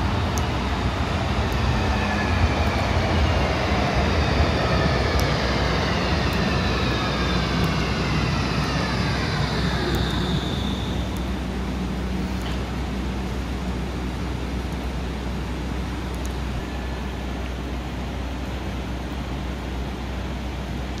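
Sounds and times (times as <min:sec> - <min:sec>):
low rumble: 0:00.0 - 0:21.0
tram drive whine: 0:00.0 - 0:21.0.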